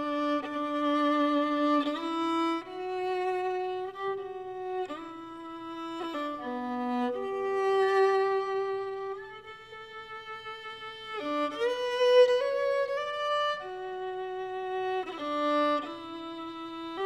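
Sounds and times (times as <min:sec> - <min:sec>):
background music melody: 0:00.0 - 0:17.0.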